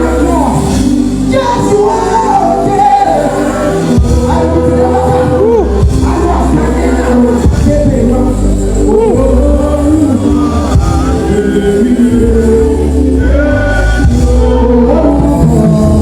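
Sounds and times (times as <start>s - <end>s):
instrumental backing with bass: 0.0s - 16.0s
man singing gospel song: 0.0s - 16.0s.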